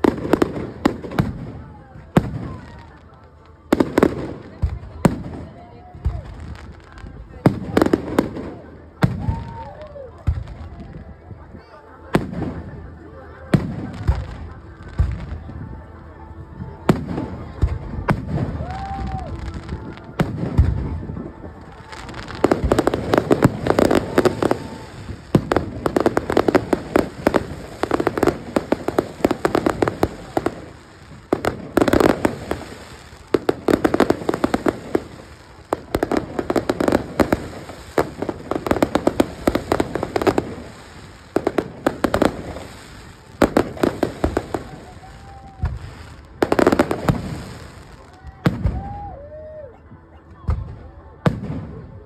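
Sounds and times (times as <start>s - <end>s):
fireworks crackling pops: 0.0s - 11.3s, 12.1s - 15.7s, 16.9s - 49.7s.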